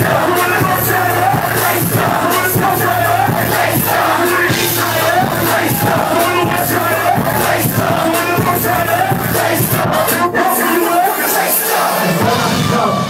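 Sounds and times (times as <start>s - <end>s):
crowd singing and shouting: 0.0s - 13.0s
loud music: 0.0s - 13.0s.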